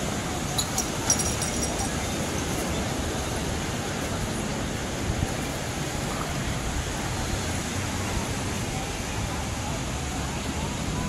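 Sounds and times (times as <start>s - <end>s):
ocean surf washing onto beach: 0.0s - 11.0s.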